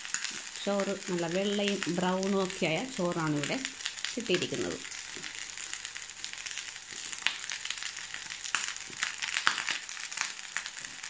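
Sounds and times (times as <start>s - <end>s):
rice sizzling in frying pan: 0.0s - 11.0s.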